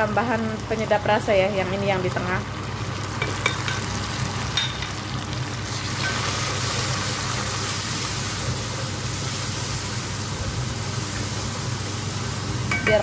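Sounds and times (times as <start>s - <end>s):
food frying in oil: 0.0s - 13.0s.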